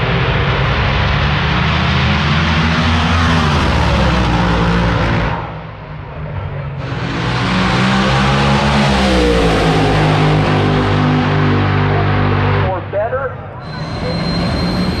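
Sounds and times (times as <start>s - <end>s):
drag race car passing: 0.0s - 15.0s.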